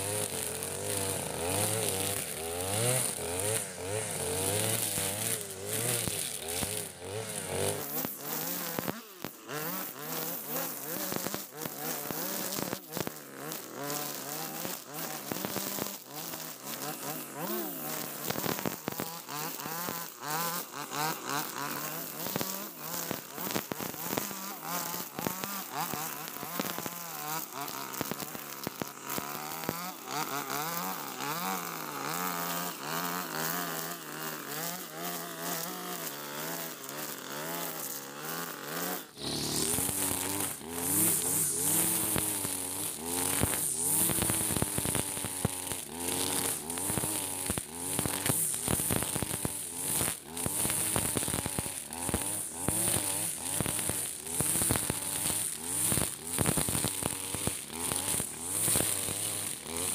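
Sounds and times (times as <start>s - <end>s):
brush cutter engine running: 0.0s - 59.9s
trimmer line whirring through grass: 0.0s - 59.9s.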